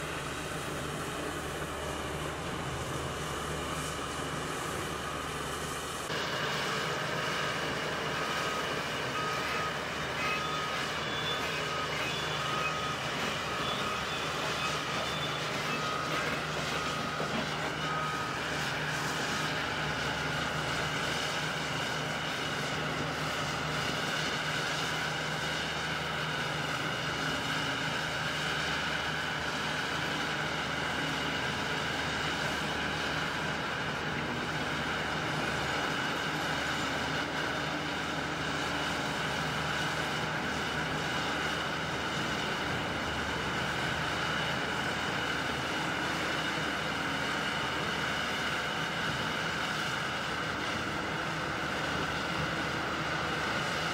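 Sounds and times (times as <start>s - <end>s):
excavator engine drone: 0.0s - 53.9s.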